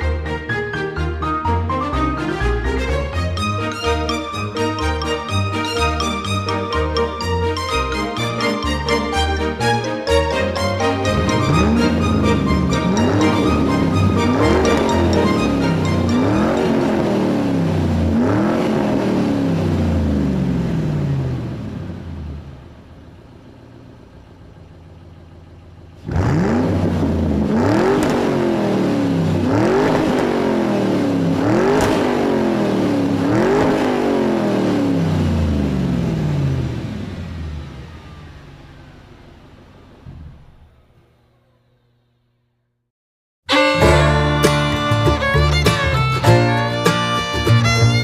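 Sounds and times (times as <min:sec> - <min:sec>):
car engine revving: 0:02.1 - 0:42.5.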